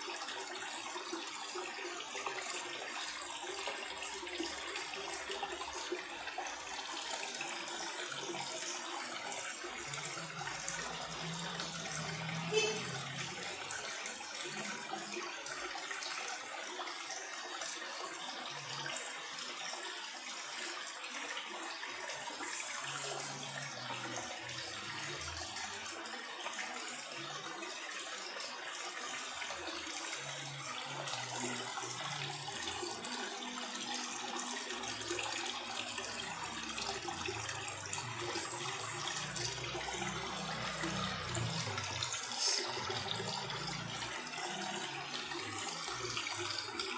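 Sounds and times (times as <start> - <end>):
water trickling and splashing: 0.0 - 46.9.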